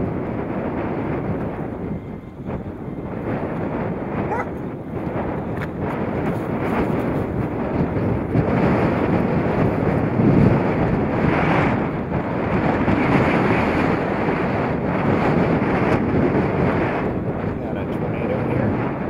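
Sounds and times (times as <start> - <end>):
tornado roaring: 0.0 - 19.0
wind buffeting microphone: 0.0 - 19.0.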